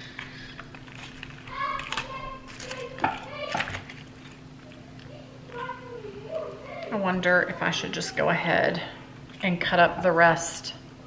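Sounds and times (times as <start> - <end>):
wooden spoon stirring food: 0.2 - 10.1.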